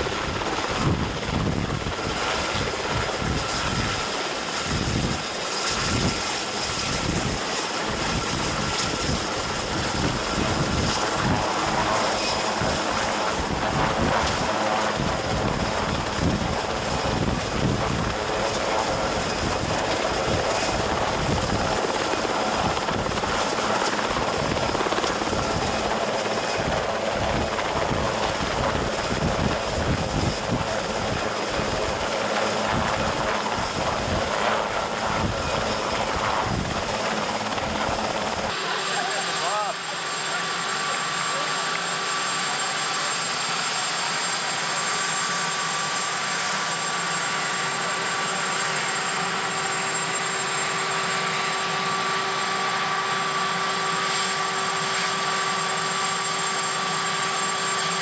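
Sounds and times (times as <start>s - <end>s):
helicopter rotor beat: 0.0s - 58.0s
helicopter turbine engines whining: 0.0s - 58.0s.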